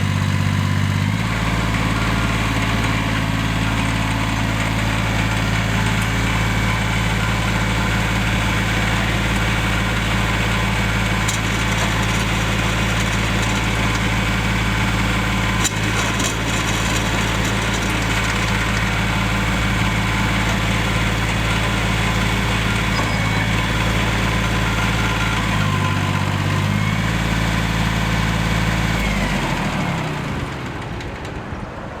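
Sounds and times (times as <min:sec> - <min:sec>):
diesel tractor engine running: 0:00.0 - 0:32.0.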